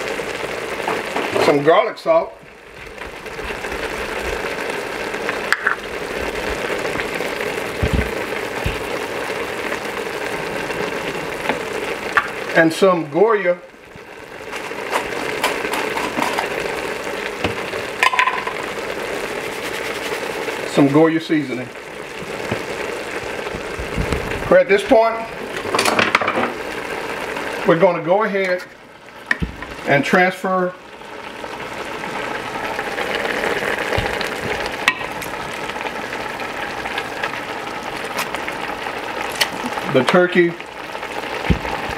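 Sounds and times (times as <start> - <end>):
pot simmering with bubbling hiss: 0.0 - 41.9.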